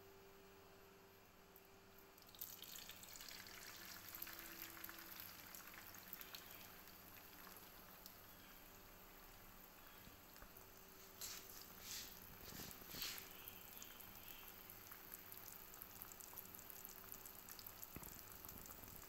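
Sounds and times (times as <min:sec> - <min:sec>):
egg sizzling in hot oil: 0:02.2 - 0:19.0.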